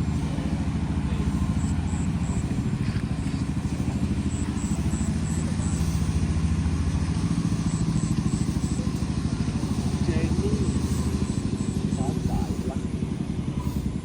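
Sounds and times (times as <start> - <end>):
engine running with low pulsing: 0.0 - 14.0.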